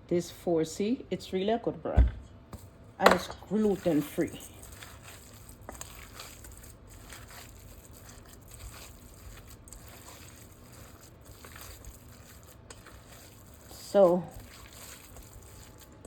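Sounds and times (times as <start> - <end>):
faint crinkling and handling: 2.6 - 16.0.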